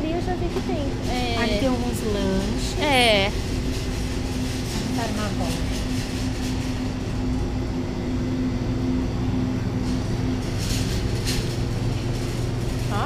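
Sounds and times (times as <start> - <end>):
refrigeration machinery hum: 0.0 - 13.0.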